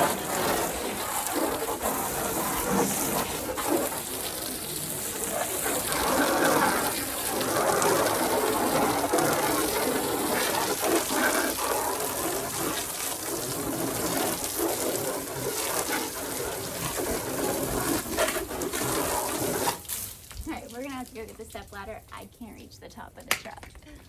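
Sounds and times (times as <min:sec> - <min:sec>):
hose water spraying on metal: 0:00.0 - 0:23.0.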